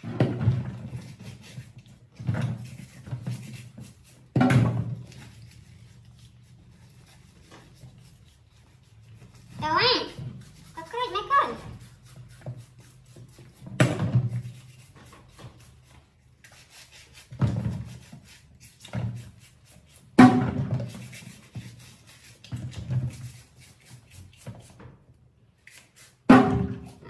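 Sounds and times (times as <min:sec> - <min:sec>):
brush scrubbing in sink: 0:00.0 - 0:27.0.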